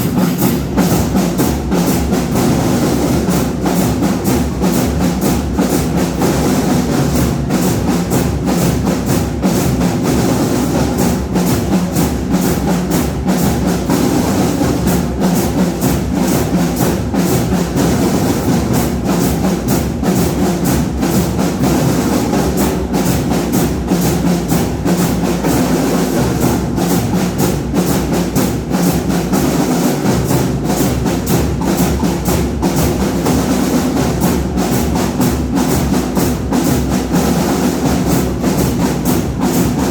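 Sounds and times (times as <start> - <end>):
drums and percussion beat: 0.0 - 39.9.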